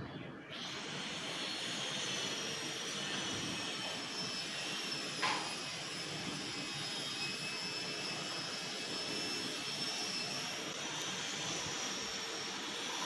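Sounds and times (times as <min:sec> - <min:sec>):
steady hiss with high whine: 0:00.0 - 0:13.0.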